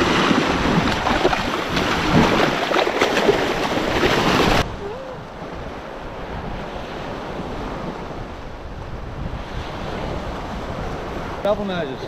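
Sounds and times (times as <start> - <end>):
waves washing onto beach: 0.0 - 12.0
wind rumbling on microphone: 0.0 - 12.0.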